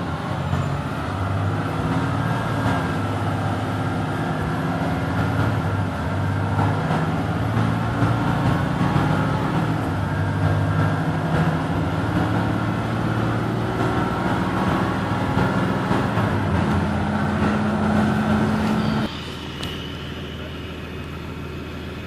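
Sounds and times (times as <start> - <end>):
bus diesel engine droning: 0.0 - 22.0
road noise: 0.0 - 22.0.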